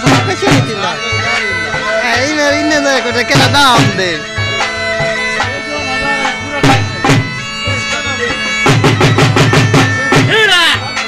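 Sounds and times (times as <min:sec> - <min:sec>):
bagpipe playing folk dance music: 0:00.0 - 0:11.0
drum strokes: 0:00.0 - 0:11.0.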